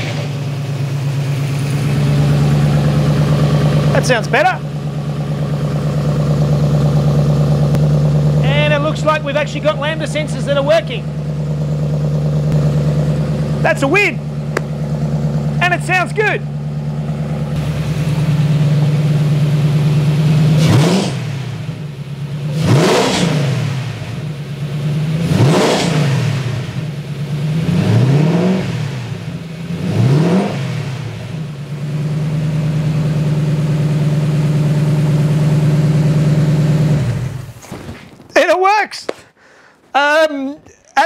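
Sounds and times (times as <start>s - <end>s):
car engine idling and revving: 0.0s - 38.2s.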